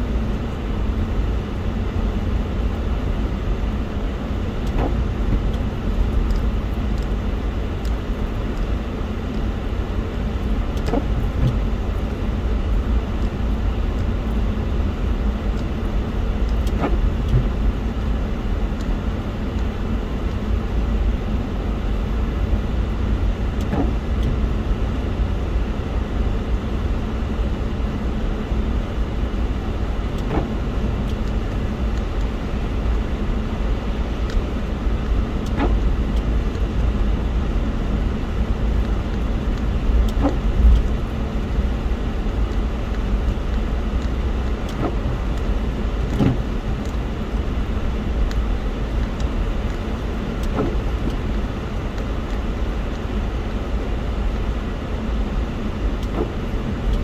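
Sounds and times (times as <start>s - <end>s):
car rumbling while moving: 0.0s - 57.0s.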